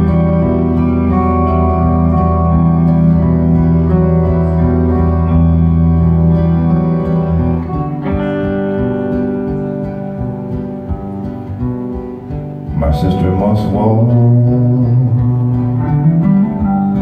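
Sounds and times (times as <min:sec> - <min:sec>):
acoustic guitar: 0:00.0 - 0:17.0
electric guitar: 0:00.0 - 0:17.0.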